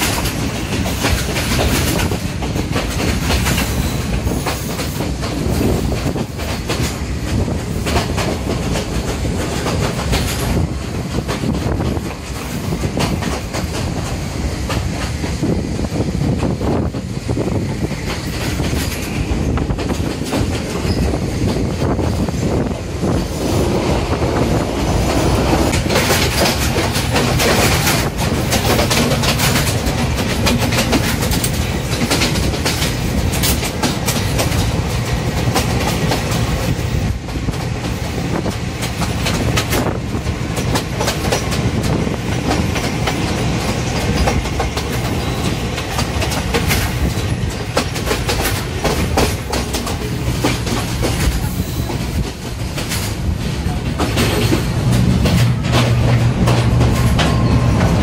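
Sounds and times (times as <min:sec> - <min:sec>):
diesel locomotive working hard: 0:00.0 - 0:58.0
train rumble: 0:00.0 - 0:58.0
wheels clacking over rail joints: 0:00.0 - 0:58.0.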